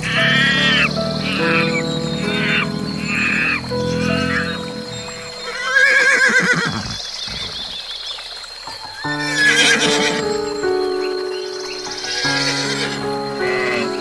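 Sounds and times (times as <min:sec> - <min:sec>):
background music: 0:00.0 - 0:06.3, 0:08.8 - 0:14.0
animal calling: 0:00.0 - 0:07.8, 0:09.1 - 0:14.0.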